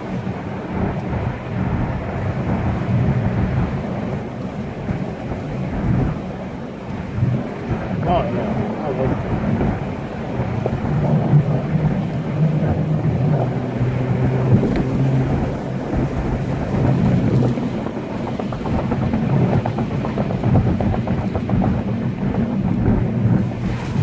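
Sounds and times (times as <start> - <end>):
car engine droning: 0.0 - 24.0
tyre and road noise: 0.0 - 24.0.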